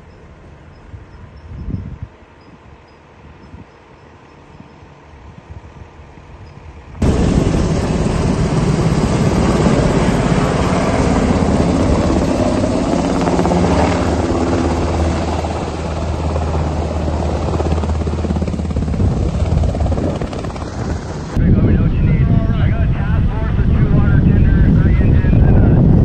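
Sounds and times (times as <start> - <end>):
helicopter rotors and turbines: 0.0 - 26.0.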